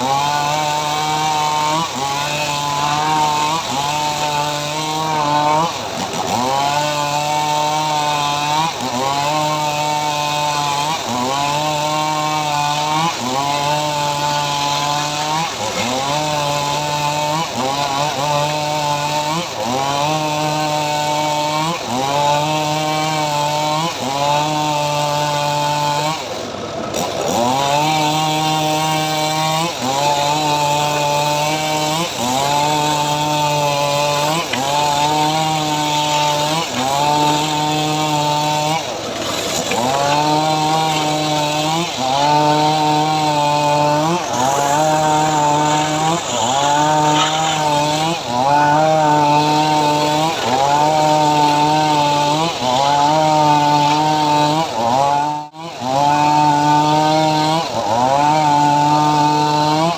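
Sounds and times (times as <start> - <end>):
saw engine cutting wood: 0.0 - 59.9.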